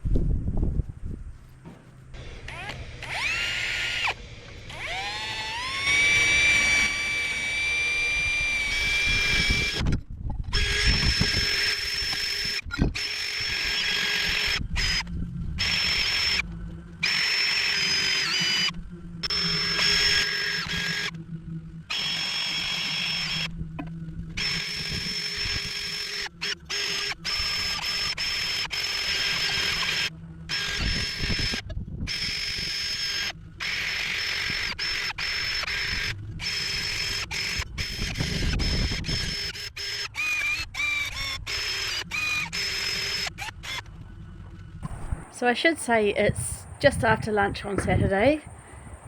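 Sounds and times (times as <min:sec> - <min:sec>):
power drill motor whine: 0:02.2 - 0:45.3.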